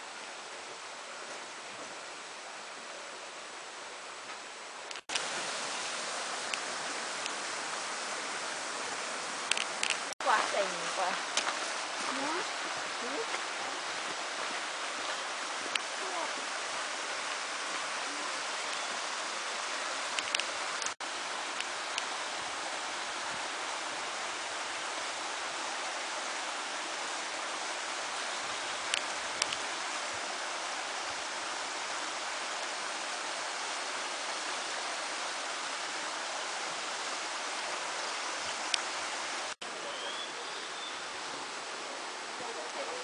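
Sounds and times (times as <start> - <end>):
stream rushing over rocks: 0.0 - 43.0.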